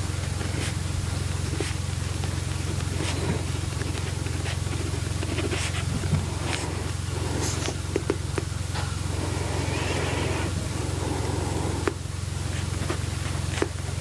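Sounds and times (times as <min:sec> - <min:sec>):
steady low hum: 0:00.0 - 0:14.0
pen scratching on paper: 0:00.3 - 0:13.8.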